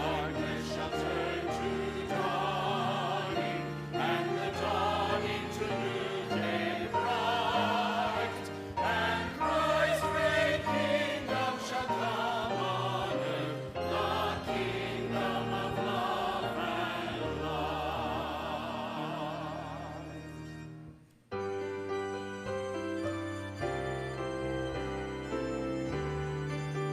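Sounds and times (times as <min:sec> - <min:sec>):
church choir singing: 0:00.0 - 0:26.9
sustained accompaniment: 0:00.0 - 0:26.9.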